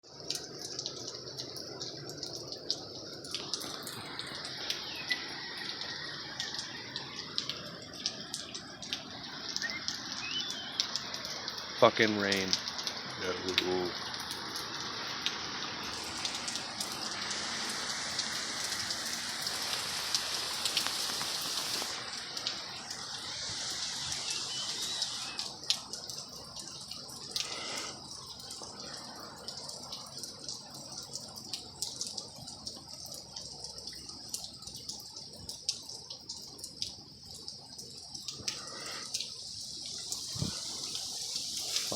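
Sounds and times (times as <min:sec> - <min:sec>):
heavy rain falling: 0:00.0 - 0:41.9
water drips: 0:00.0 - 0:41.9.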